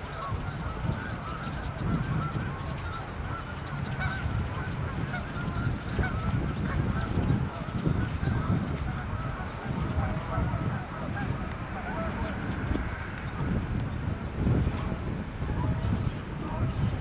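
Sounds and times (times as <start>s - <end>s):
flock of birds calling: 0.0s - 14.1s.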